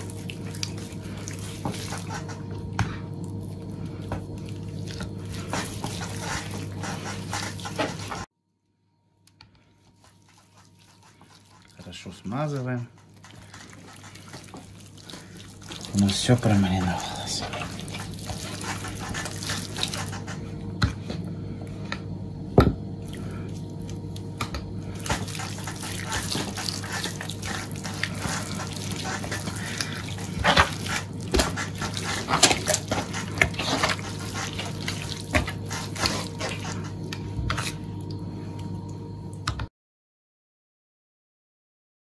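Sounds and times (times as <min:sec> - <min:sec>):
hands squelching on raw meat: 0:00.0 - 0:08.3, 0:09.6 - 0:21.2, 0:23.0 - 0:38.7
steady hum: 0:00.0 - 0:39.6.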